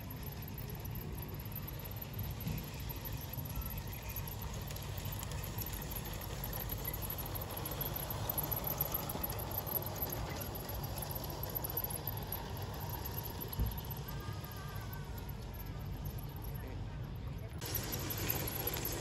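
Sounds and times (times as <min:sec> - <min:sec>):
motor whir: 0:00.0 - 0:16.6, 0:17.6 - 0:19.0
model train wheels on rails: 0:00.0 - 0:19.0.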